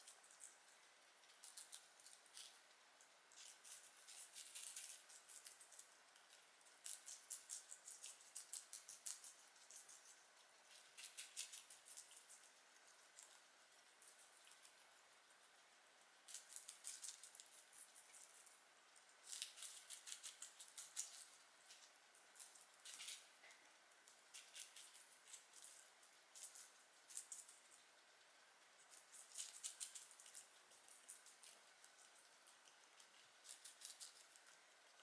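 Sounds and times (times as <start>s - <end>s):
guinea pigs chewing: 0.0s - 35.0s.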